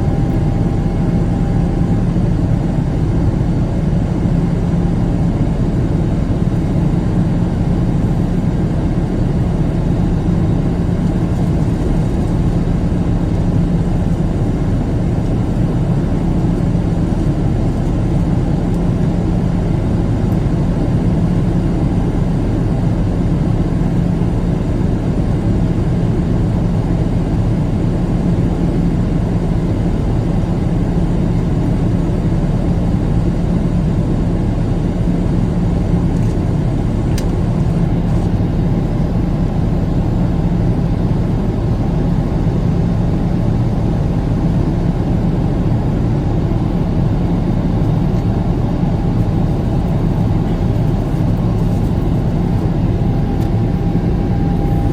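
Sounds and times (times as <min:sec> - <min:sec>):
jet airliner cabin noise: 0:00.0 - 0:54.9.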